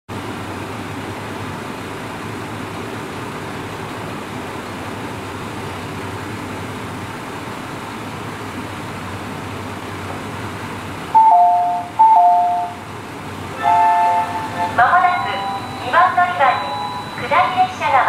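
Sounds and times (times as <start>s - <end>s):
train low hum: 0.1s - 18.0s.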